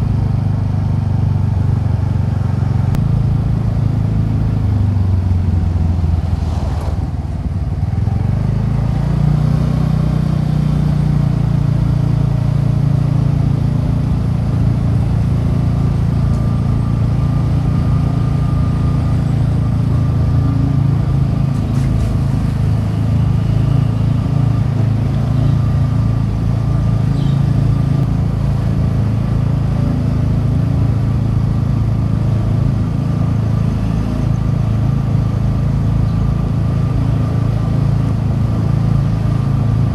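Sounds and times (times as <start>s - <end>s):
scooter engine while riding: 0.0s - 39.9s.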